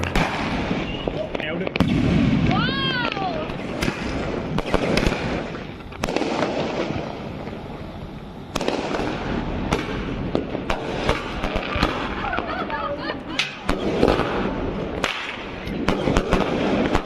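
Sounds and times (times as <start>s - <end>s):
continuous hiss: 0.0s - 17.0s
firecrackers banging: 0.0s - 17.0s.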